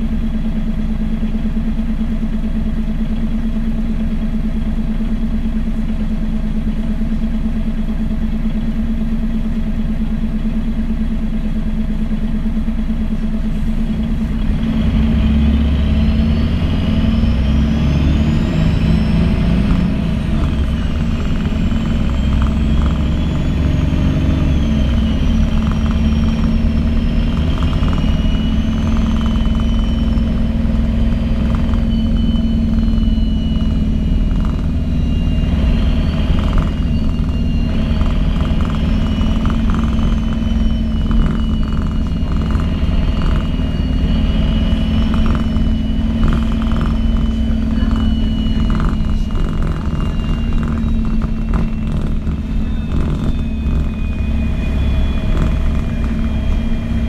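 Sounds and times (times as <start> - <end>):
bus diesel engine: 0.0 - 57.0
gearbox whine: 0.0 - 57.0.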